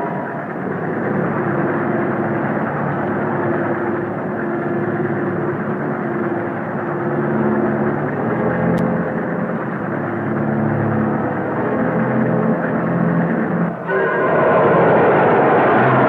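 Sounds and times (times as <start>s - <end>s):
passenger train running: 0.0s - 16.0s.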